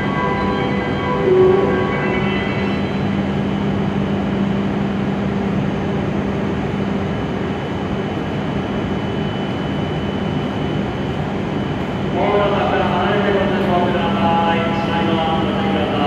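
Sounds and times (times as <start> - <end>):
high whine: 0.0 - 16.0
train low drone: 0.0 - 16.0.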